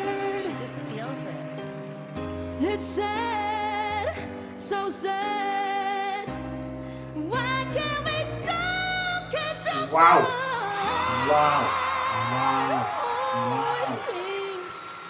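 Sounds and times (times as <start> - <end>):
young woman singing: 0.0 - 1.5, 2.6 - 6.4, 7.0 - 14.9
piano accompaniment: 0.0 - 14.1.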